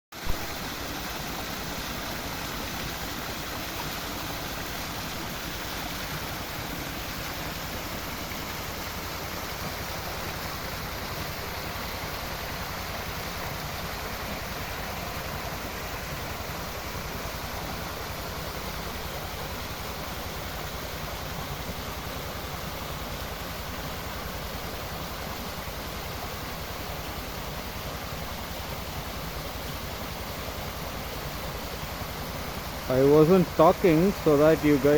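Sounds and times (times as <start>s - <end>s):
stream splashing over rocks: 0.1s - 34.9s.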